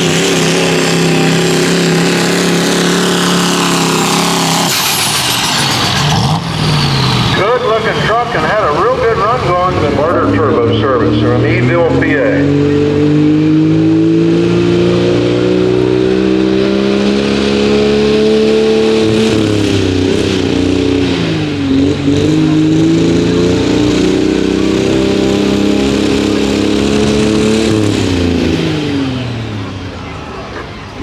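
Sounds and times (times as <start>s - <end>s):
diesel truck engine under load: 0.0s - 31.0s.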